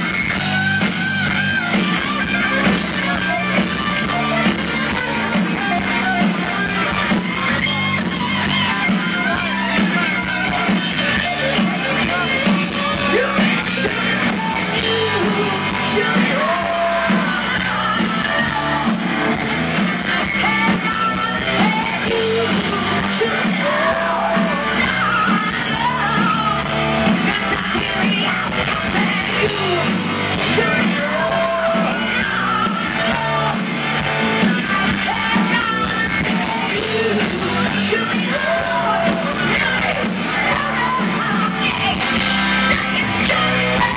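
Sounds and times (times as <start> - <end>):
drums: 0.0 - 43.9
electric guitars: 0.0 - 43.9
man yelling rock vocals: 0.0 - 43.9.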